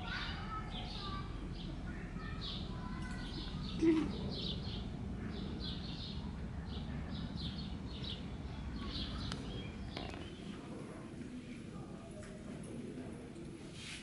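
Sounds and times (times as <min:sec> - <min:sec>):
songbirds chirping: 0:00.0 - 0:13.5.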